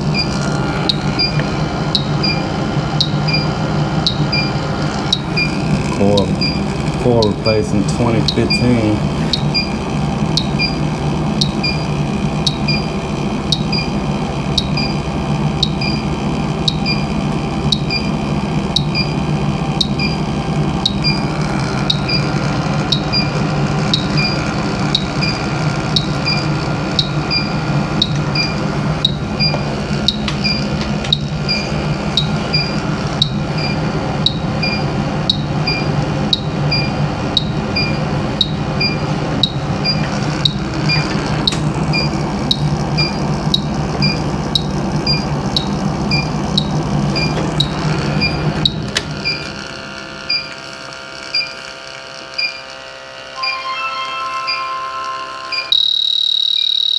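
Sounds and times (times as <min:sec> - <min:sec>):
steady low hum: 0:00.0 - 0:56.7
leak detector beeping: 0:00.0 - 0:56.9.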